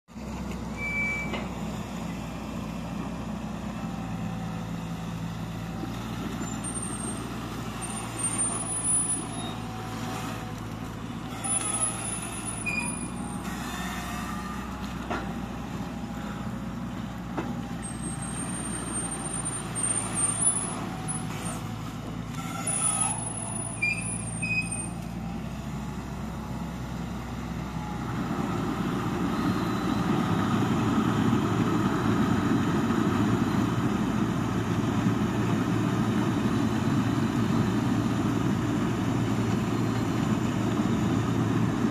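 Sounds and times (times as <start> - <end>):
diesel engine running: 0.1 - 41.9.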